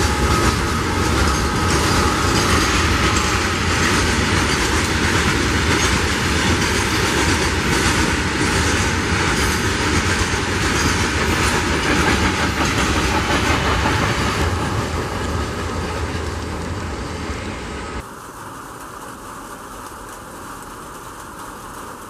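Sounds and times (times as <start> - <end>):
train wagons rolling on rails: 0.0 - 22.0.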